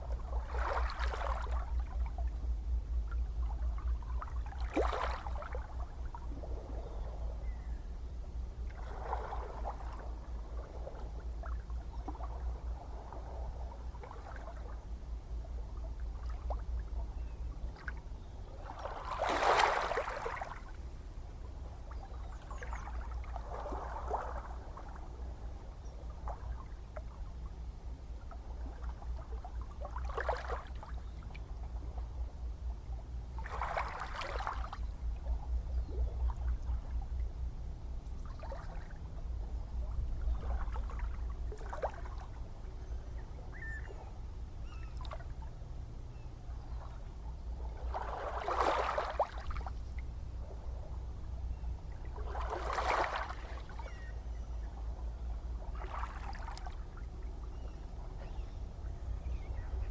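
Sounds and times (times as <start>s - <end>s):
ocean waves lapping and splashing: 0.0s - 7.7s, 8.5s - 59.9s.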